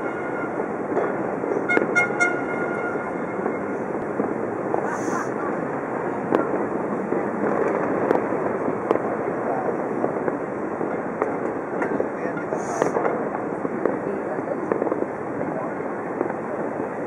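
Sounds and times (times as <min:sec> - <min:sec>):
background noise wash: 0:00.0 - 0:17.0
distant fireworks cracking: 0:00.0 - 0:17.0.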